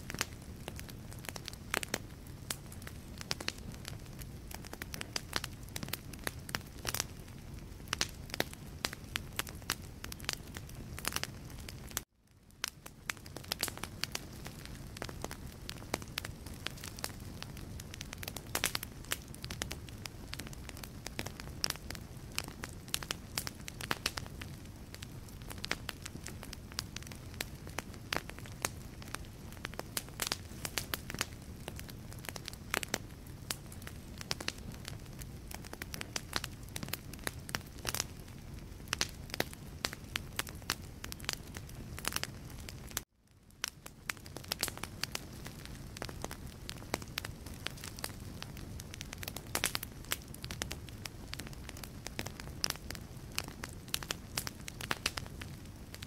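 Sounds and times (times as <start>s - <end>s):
low rumble of flame: 0.0s - 56.0s
wood logs crackling and popping: 0.0s - 56.0s.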